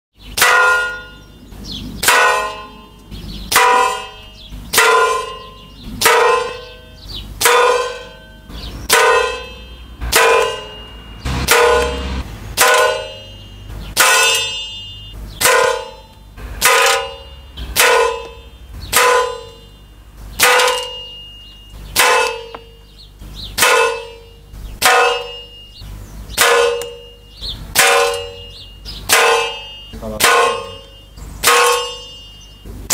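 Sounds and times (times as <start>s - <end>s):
ringing metallic clang: 0.3s - 32.9s.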